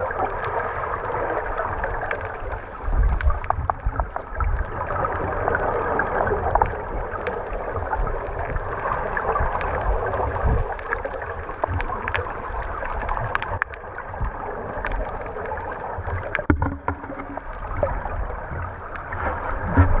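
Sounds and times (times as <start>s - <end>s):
underwater bubbling of exhaled air: 0.0s - 20.0s.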